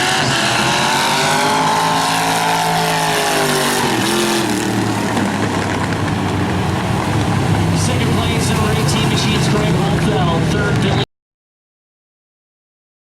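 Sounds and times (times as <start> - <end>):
race car engines: 0.0 - 11.1.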